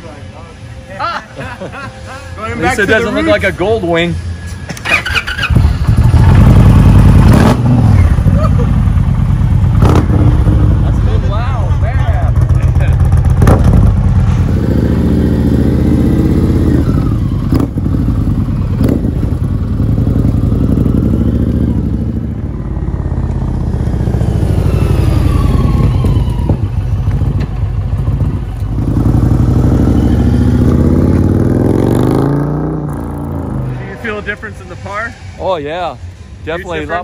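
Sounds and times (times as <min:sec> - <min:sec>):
motorcycle exhaust revving: 0:04.7 - 0:35.4.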